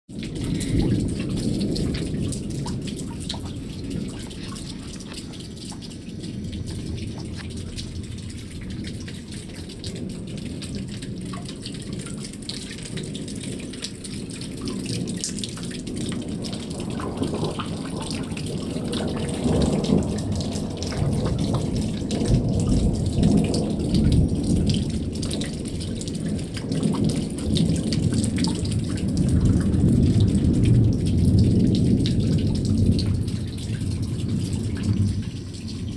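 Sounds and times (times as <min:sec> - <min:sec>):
low thunder rumbling: 0:00.1 - 0:35.9
rain pattering: 0:00.1 - 0:35.9.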